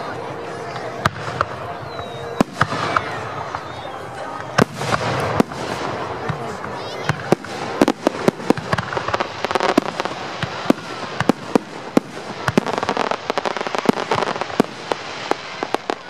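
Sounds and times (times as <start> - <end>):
fireworks bursting with sharp bangs: 0.0 - 16.0.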